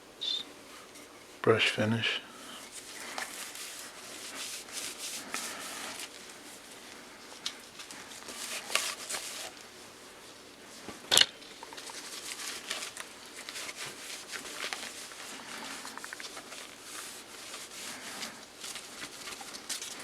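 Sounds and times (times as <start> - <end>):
rustling and handling noises: 0.0 - 1.4, 2.4 - 20.0.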